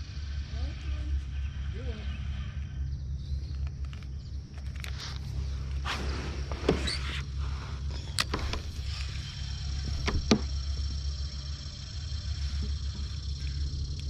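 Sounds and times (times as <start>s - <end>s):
electric motor hum and whine: 0.0s - 14.0s.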